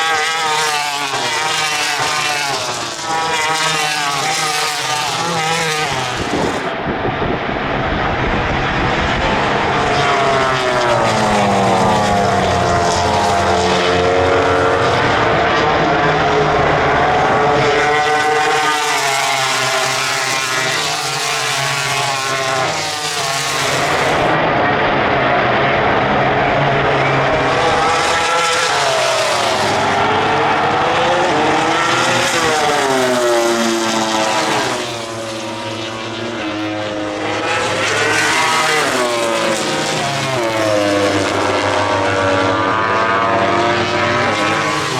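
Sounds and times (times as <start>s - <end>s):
race motorcycles passing: 0.0s - 44.9s.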